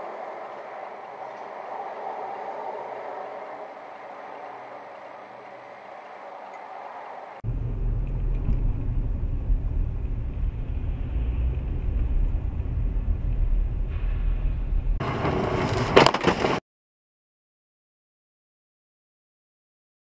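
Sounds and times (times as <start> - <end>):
car road and engine rumble: 0.0 - 16.6.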